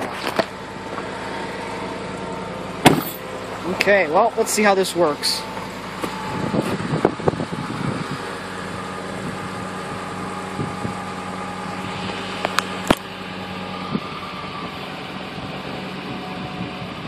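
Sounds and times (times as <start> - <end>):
pickup engine idling: 0.0 - 17.0.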